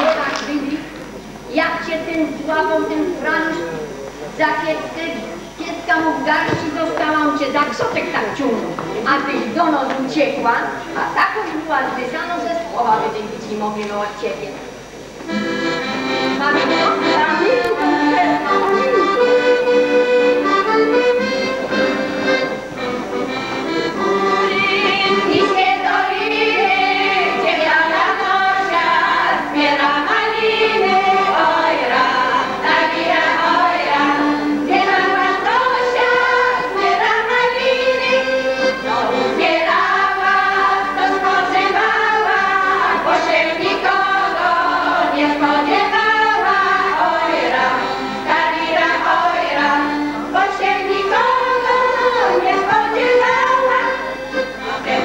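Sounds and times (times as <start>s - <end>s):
women singing folk song in unison: 0.0s - 0.8s, 4.4s - 13.4s, 16.4s - 20.6s, 24.2s - 55.0s.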